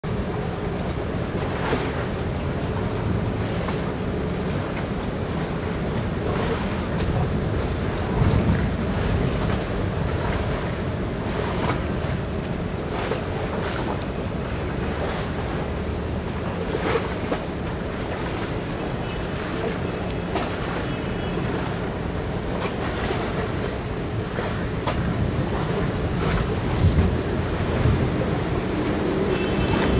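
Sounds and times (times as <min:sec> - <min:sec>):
water lapping against hulls: 0:00.0 - 0:29.9
wind buffeting microphone: 0:00.0 - 0:29.9.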